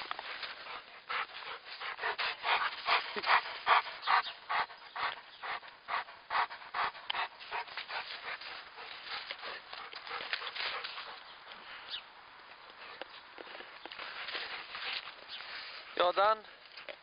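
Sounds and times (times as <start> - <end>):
dog panting: 0.0 - 11.7, 12.7 - 15.9.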